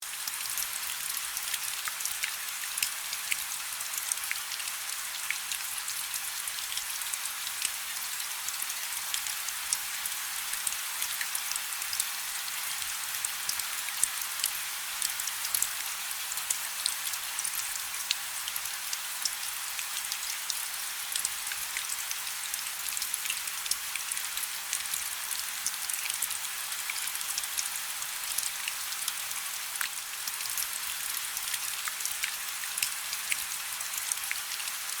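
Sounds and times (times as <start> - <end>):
raindrops ticking on a surface: 0.0 - 35.0.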